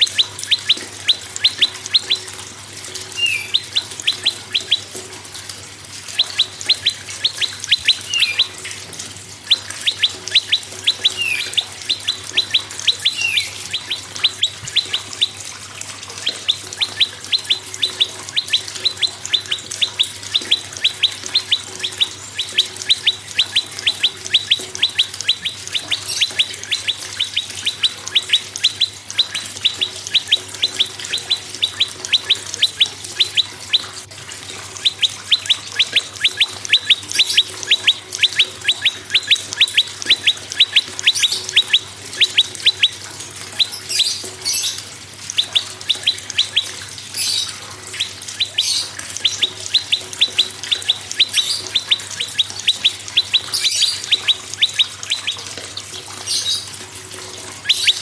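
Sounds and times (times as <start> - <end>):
scratchy bird calls: 0.0 - 58.0
songbird chip notes: 0.0 - 58.0.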